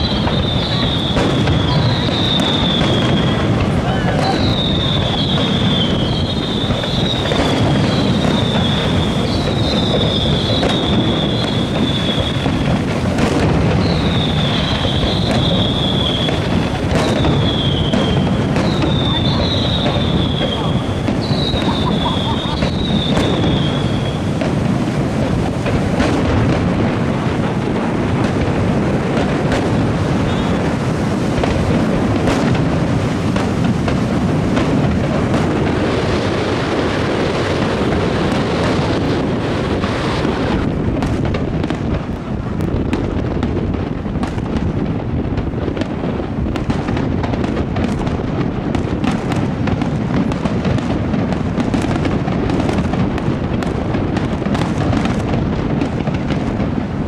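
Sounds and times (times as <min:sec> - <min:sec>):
fireworks crackling and popping: 0:00.0 - 0:57.0
fireworks shell bursts rumbling: 0:00.0 - 0:57.0.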